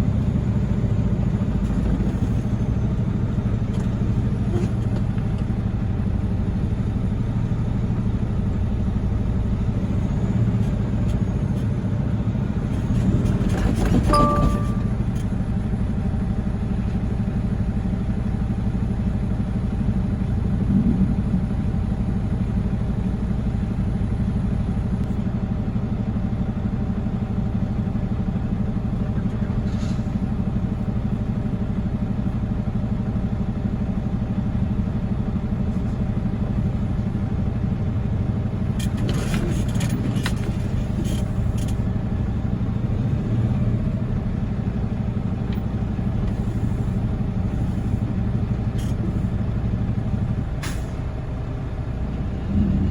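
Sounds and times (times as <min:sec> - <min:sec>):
diesel truck engine droning: 0:00.0 - 0:52.9.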